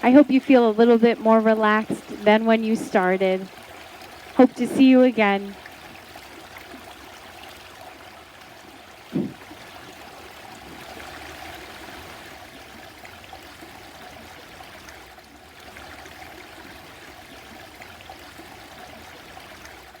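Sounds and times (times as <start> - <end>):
stream trickling over rocks: 0.0 - 20.0.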